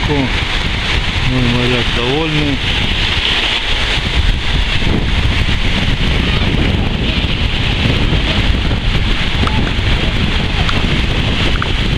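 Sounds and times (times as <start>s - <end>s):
surf hiss: 0.0s - 11.9s
wind buffeting microphone: 0.0s - 11.9s.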